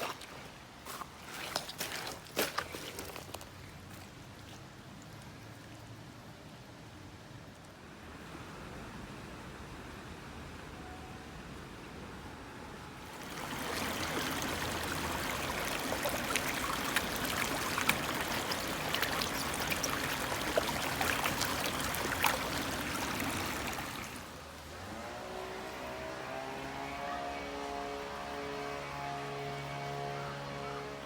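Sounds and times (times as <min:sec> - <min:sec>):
stream trickling and babbling: 0:00.0 - 0:31.0.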